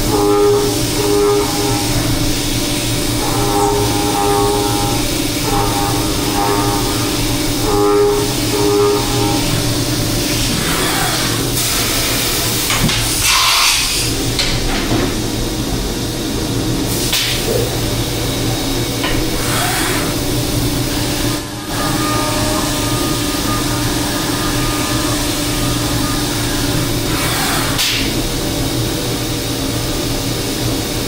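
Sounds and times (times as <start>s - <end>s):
milling machine hum: 0.0s - 31.0s.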